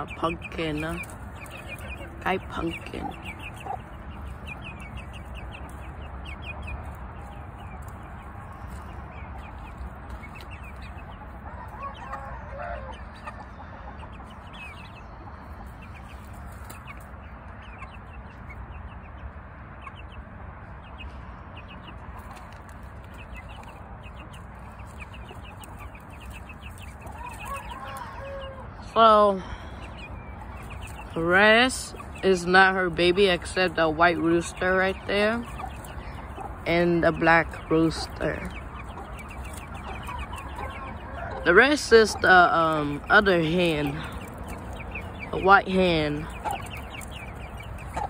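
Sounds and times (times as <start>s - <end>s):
chickens clucking: 0.0s - 48.0s
chicks peeping: 0.0s - 48.0s.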